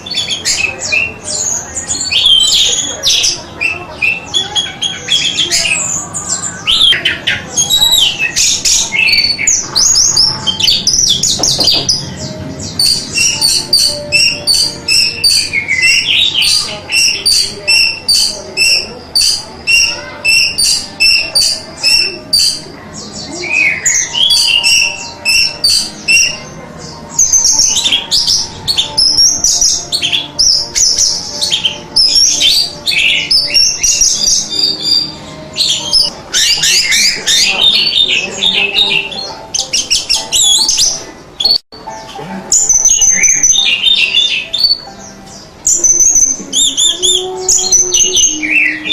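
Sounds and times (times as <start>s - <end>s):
thrush singing: 0.0s - 48.9s.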